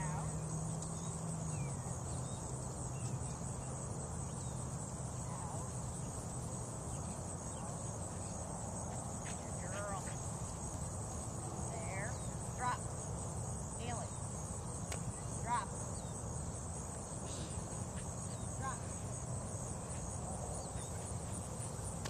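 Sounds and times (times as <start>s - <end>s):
insects droning high-pitched: 0.0s - 22.0s.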